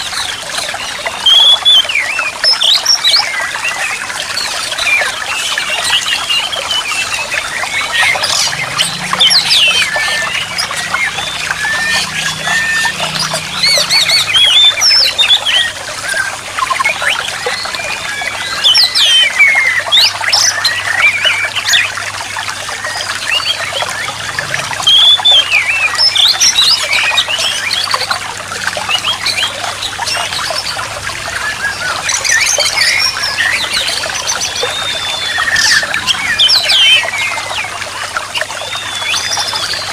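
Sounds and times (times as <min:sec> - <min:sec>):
birds chirping: 0:00.0 - 0:39.9
water trickling: 0:00.0 - 0:39.9.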